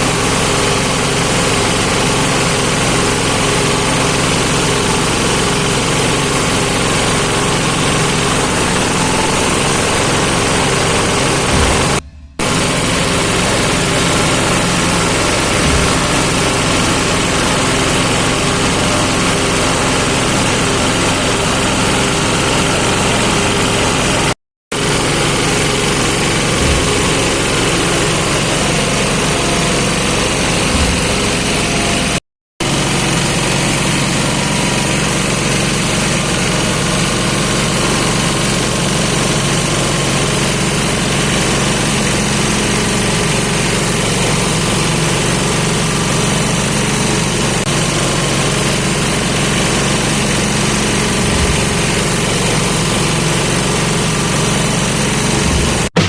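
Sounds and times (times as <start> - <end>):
feed chopper machine droning: 0.0 - 56.0.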